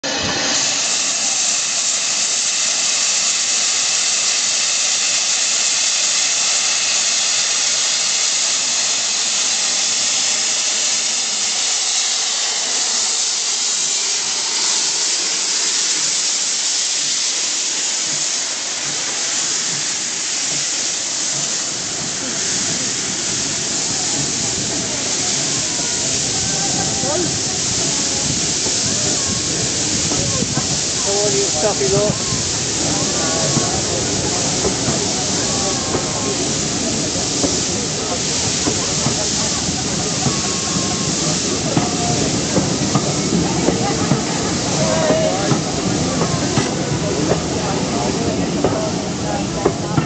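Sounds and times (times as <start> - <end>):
steam locomotive blowing off steam: 0.0 - 50.0.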